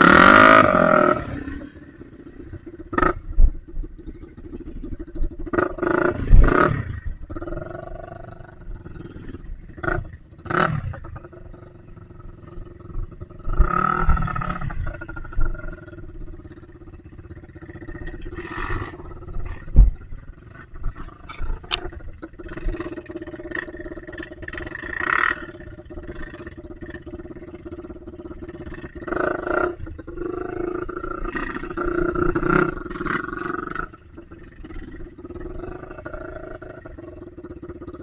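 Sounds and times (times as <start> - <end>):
dirt bike engine at low revs: 0.0 - 38.0.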